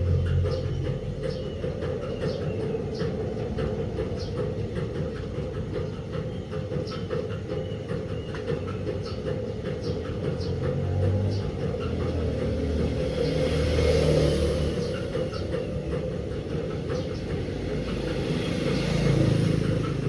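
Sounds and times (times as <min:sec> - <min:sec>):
washing machine rumbling: 0:00.0 - 0:20.0.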